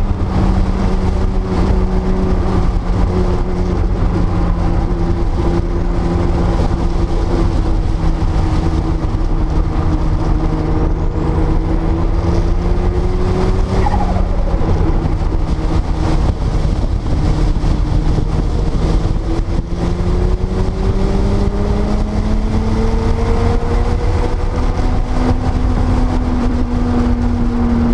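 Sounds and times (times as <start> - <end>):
car engine running: 0.0 - 27.9
heavy low rumble: 0.0 - 27.9.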